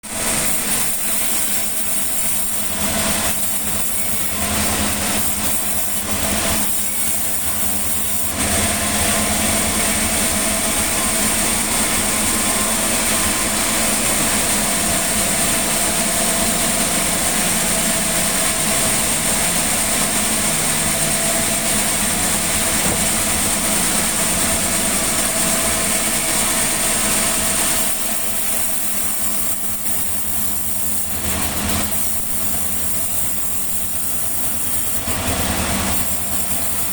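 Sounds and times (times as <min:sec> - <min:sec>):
sawmill machinery humming: 0:00.1 - 0:36.9.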